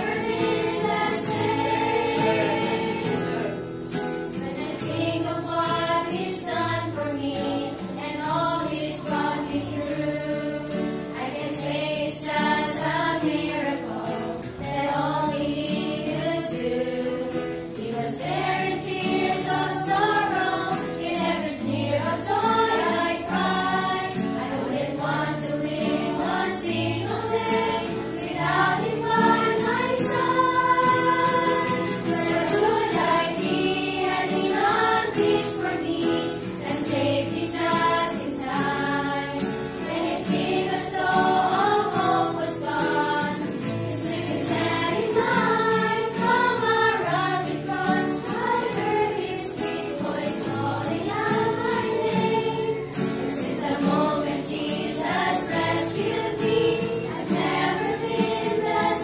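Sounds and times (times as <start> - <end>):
acoustic guitar: 0.0 - 59.0
women's choir singing gospel: 0.0 - 59.0.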